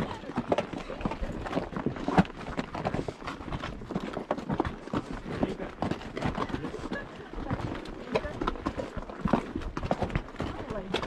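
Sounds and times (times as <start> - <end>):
horse hooves clip-clopping on dirt: 0.0 - 11.0.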